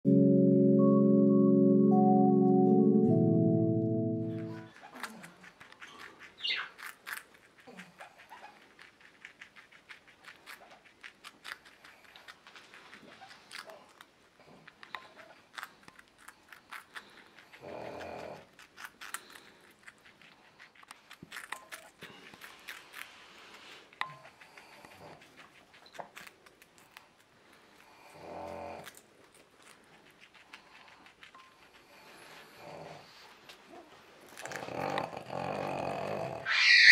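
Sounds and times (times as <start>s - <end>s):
teeth clicking while gnawing: 4.6s - 36.3s.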